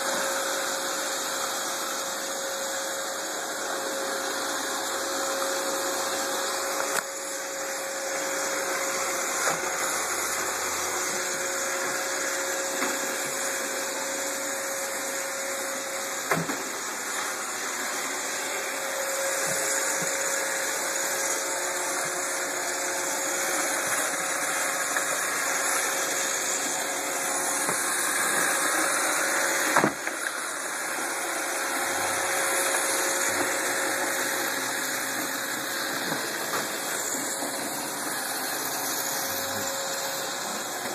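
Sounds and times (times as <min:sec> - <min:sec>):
robot vacuum whirring: 0:00.0 - 0:40.9.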